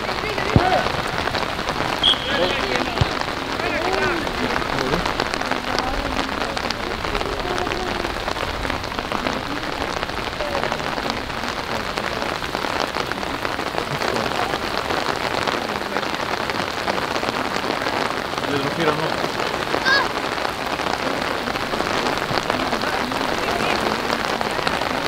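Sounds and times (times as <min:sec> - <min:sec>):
faint distant voices: 0:00.0 - 0:25.0
rain pattering: 0:00.0 - 0:25.0.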